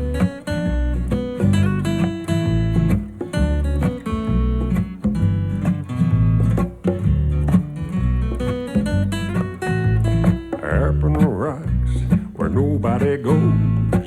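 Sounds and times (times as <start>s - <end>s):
steady bass line: 0.0s - 14.0s
strummed acoustic guitar: 0.0s - 14.0s.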